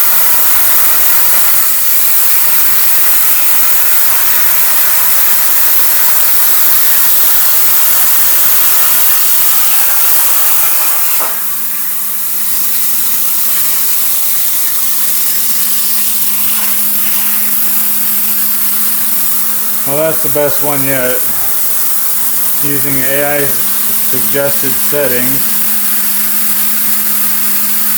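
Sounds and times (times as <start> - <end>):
air hiss: 0.0 - 27.9
plasma torch cutting steel hiss: 0.0 - 27.9.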